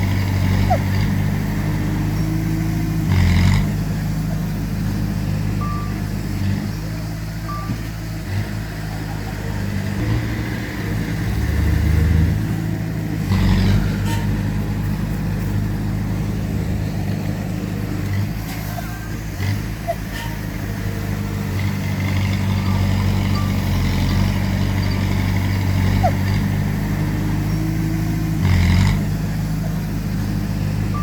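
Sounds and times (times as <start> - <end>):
heavy machinery diesel engines: 0.0 - 31.0.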